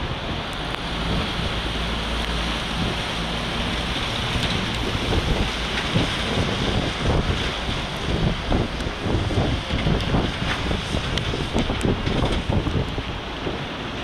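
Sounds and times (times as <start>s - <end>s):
jet engines rumbling: 0.0s - 14.0s
wind buffeting microphone: 0.0s - 14.0s.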